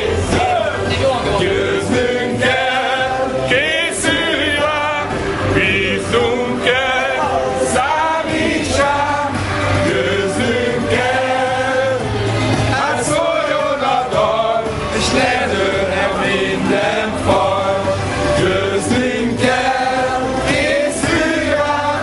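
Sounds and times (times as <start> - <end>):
men singing with music: 0.0 - 22.0.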